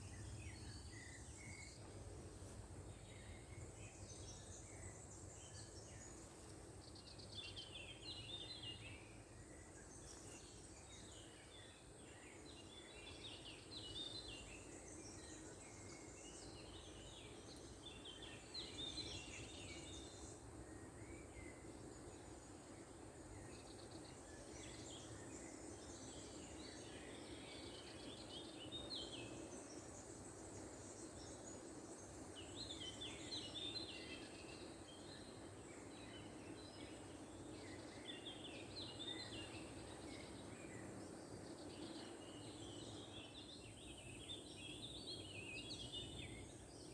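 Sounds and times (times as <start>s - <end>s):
songbirds singing and twittering: 0.0s - 46.9s.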